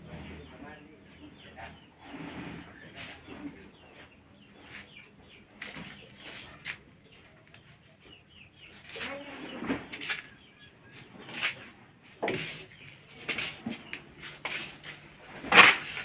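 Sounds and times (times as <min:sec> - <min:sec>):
faint chicken clucking: 0:00.0 - 0:14.3.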